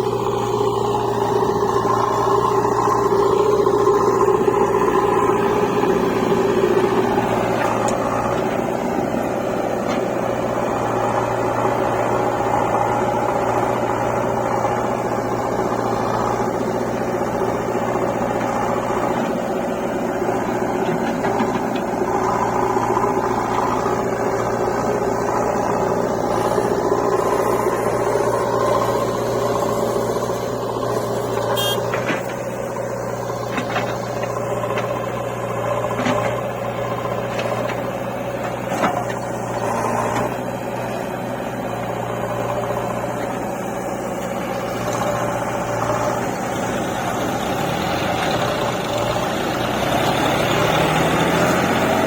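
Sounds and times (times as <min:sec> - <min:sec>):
engine running: 0:00.0 - 0:52.0.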